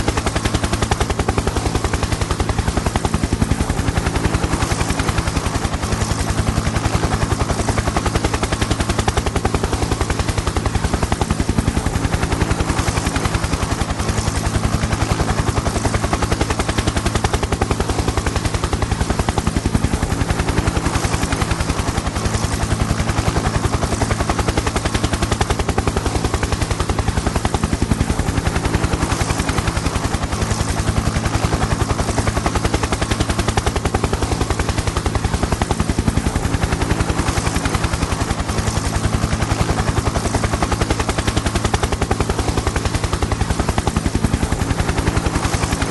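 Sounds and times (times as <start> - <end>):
helicopter rotor blades chopping: 0.0 - 45.9.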